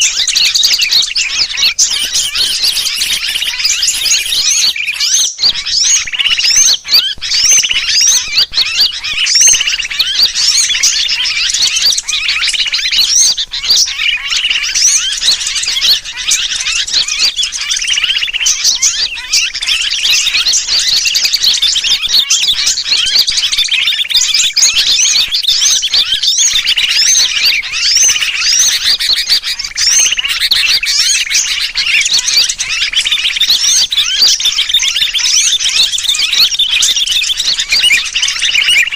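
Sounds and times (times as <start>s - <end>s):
bird distress calls: 0.0s - 38.9s
chorus of small birds chattering: 0.0s - 38.9s.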